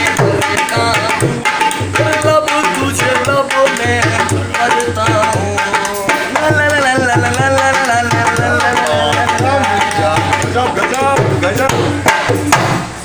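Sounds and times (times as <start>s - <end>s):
hand drum playing: 0.0s - 13.0s.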